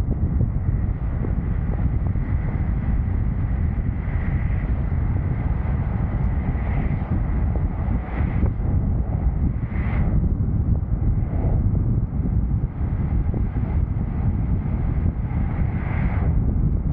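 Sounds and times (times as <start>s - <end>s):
road noise rumble: 0.0s - 16.9s
wind rushing over microphone: 0.0s - 16.9s.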